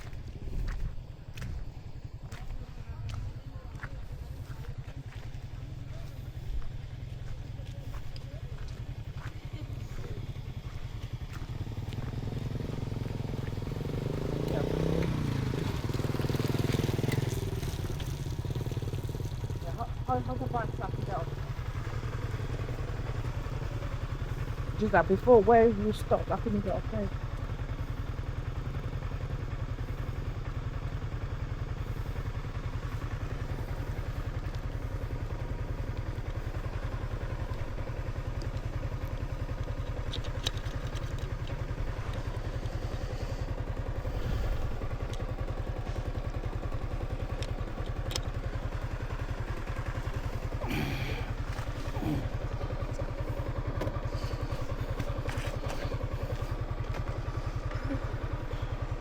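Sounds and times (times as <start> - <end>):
small motorcycle engine idling: 0.0 - 59.0.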